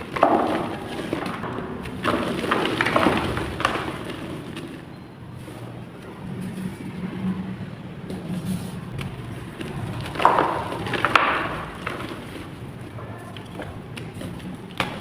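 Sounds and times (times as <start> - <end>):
clay block crushing and crumbling: 0.0 - 5.7, 8.1 - 15.0.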